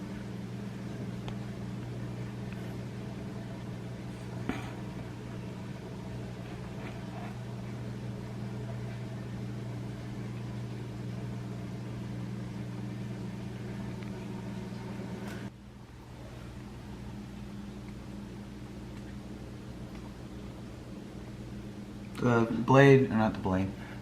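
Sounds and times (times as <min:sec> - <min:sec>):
ceiling fan motor hum: 0:00.0 - 0:24.0.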